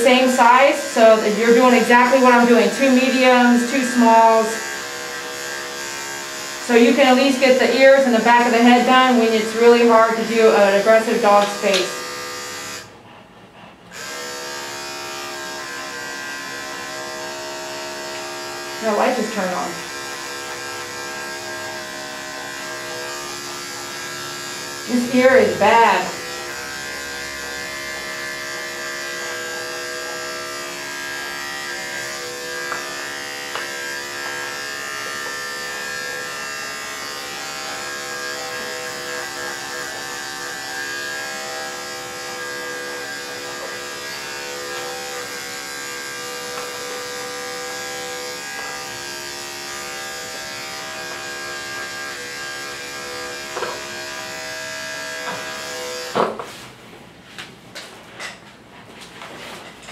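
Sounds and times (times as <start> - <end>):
electric clippers buzzing: 0.0 - 13.1, 13.8 - 56.6.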